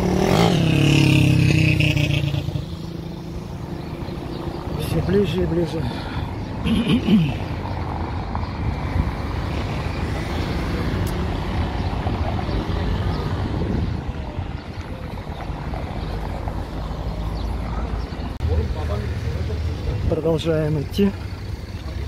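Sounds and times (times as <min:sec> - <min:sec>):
passing cars: 0:00.0 - 0:22.0.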